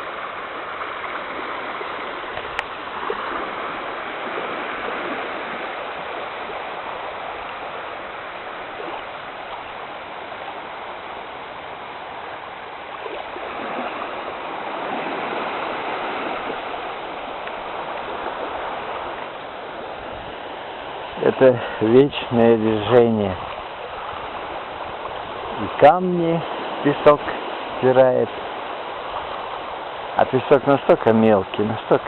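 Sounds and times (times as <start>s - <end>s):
small waves splashing in shallows: 0.0s - 32.0s.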